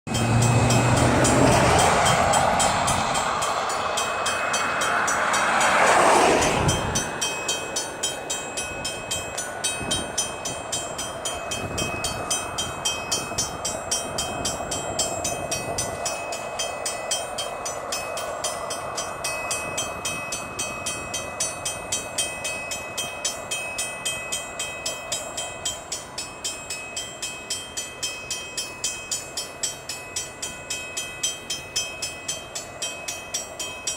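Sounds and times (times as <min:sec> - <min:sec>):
locomotive passing: 0:00.1 - 0:33.9
train cars ticking on rails: 0:00.1 - 0:33.9.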